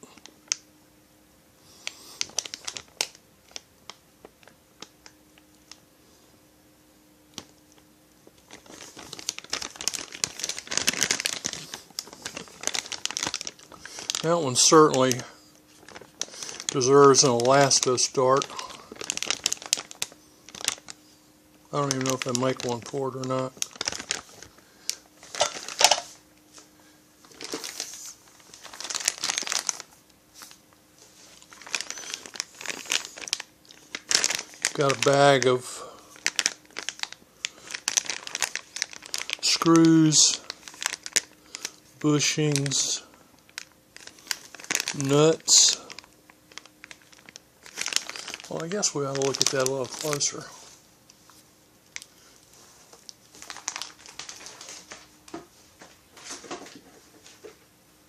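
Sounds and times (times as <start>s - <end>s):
plastic packaging crinkling: 1.8s - 5.8s, 7.4s - 21.1s, 21.7s - 57.6s.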